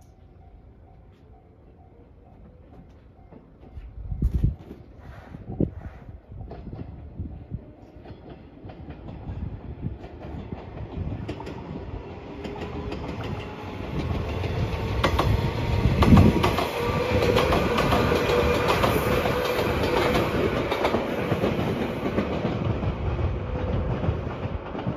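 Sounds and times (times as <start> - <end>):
electric train running past: 0.0 - 24.9
train wheels clicking over rail joints: 2.4 - 24.9.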